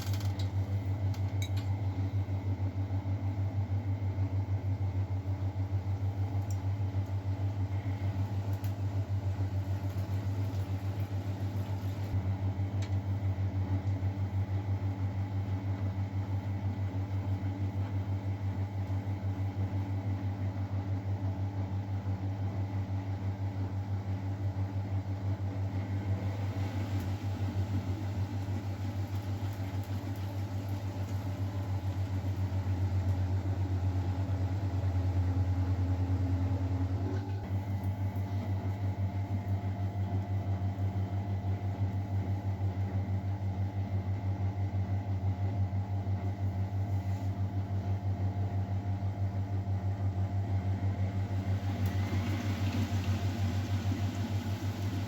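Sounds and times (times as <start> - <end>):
washing machine hum: 0.0 - 55.0.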